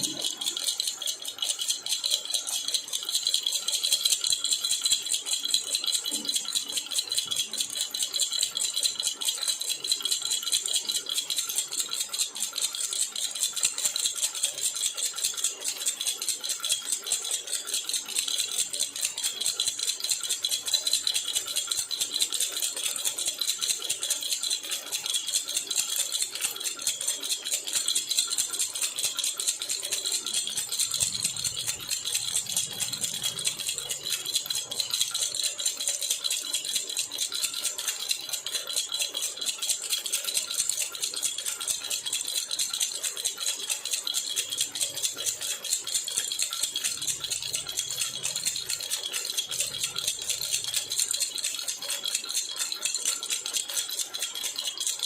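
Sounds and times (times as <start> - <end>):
baby rattle shaken: 0.0 - 55.0.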